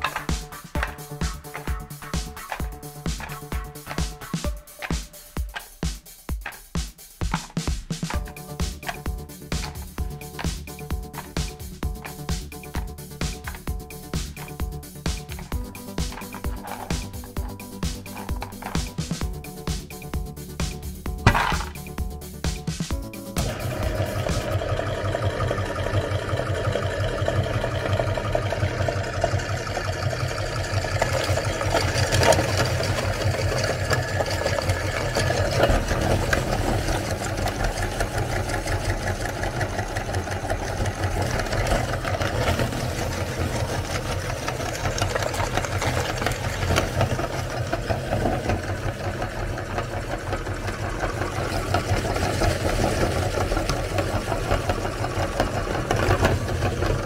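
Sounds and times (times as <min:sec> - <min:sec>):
meat grinder crunching cookies: 0:00.0 - 0:19.9, 0:22.9 - 0:57.0.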